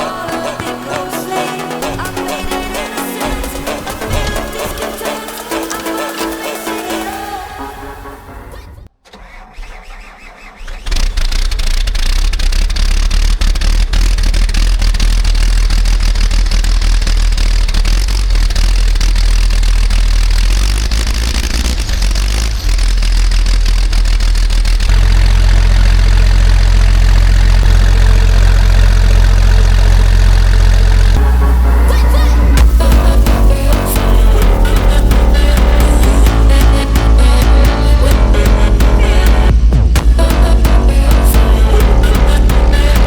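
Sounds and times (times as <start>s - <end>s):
excavator engine starting and running: 0.0s - 43.0s.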